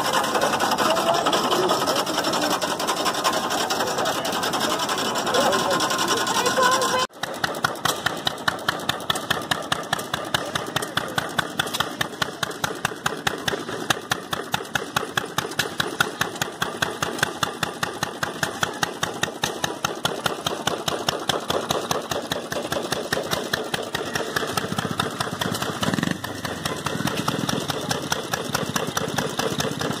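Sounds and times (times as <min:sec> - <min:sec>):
stationary engine running: 0:00.0 - 0:30.0.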